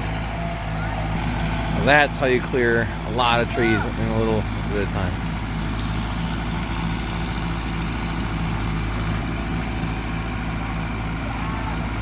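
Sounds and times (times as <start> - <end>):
engine running with regular throb: 0.0 - 12.0.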